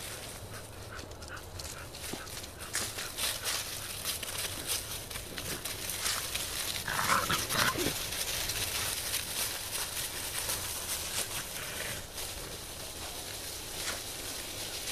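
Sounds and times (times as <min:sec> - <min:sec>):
dry leaves crunching underfoot: 0:00.0 - 0:14.9.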